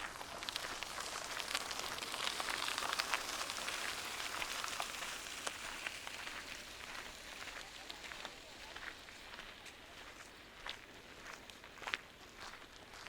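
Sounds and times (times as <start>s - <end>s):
crunching footsteps on a trail: 0.0s - 13.0s.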